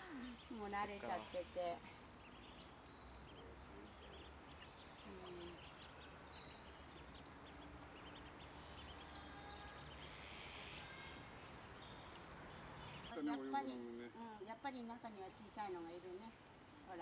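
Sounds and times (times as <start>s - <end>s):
ducklings peeping: 0.0s - 13.9s.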